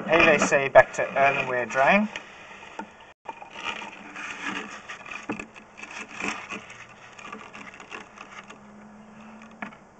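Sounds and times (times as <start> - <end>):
knocks and scrapes of handling: 0.0 - 9.9.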